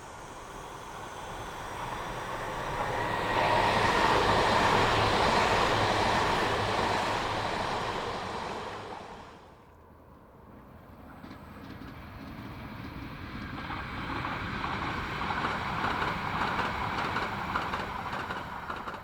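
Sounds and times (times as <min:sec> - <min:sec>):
train passing by: 0:00.0 - 0:19.0.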